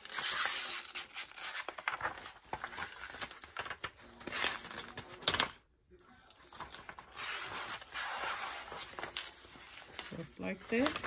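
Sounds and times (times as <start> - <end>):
paper and plastic film crinkling: 0.0 - 5.6, 6.3 - 11.0.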